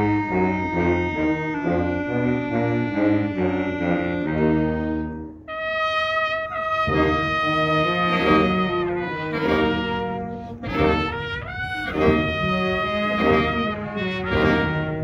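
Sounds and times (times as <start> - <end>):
brass band playing chords: 0.0 - 15.0.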